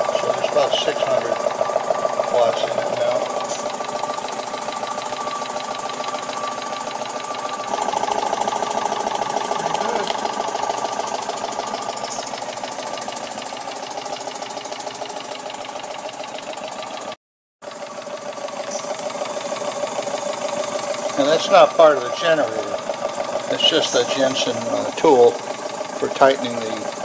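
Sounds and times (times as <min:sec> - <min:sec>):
steam engine clattering: 0:00.0 - 0:15.8, 0:18.5 - 0:27.0.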